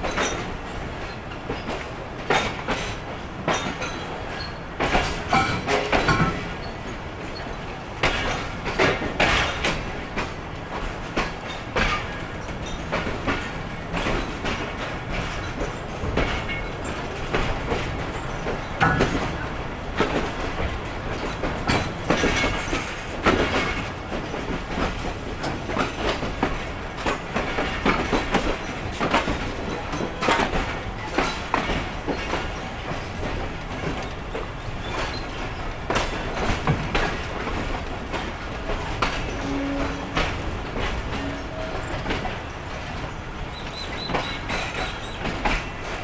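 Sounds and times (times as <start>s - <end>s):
train wheels clacking over rail joints: 0.0s - 46.0s.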